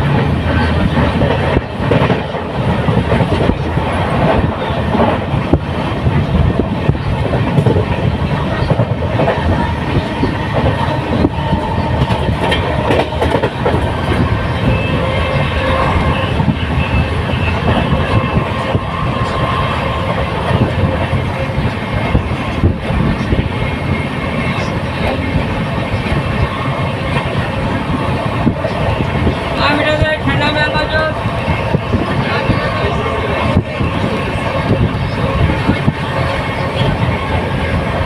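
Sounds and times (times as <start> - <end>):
train running on track: 0.0 - 38.0.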